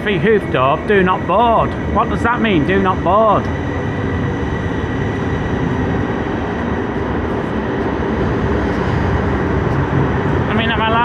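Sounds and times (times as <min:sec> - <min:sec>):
train standing noise: 0:00.0 - 0:11.0.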